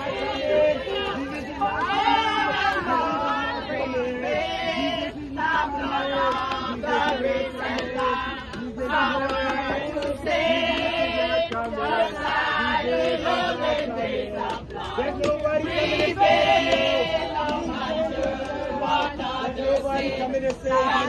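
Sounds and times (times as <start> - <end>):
group singing worship song: 0.0 - 21.0.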